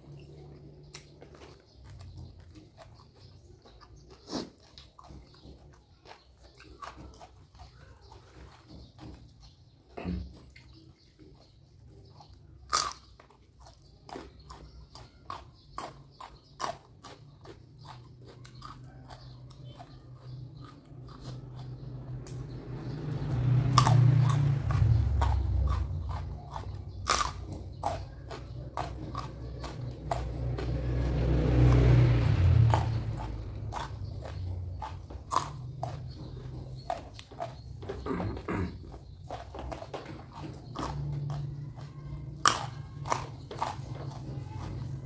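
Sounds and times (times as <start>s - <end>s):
person chewing and crunching food: 0.0s - 45.0s.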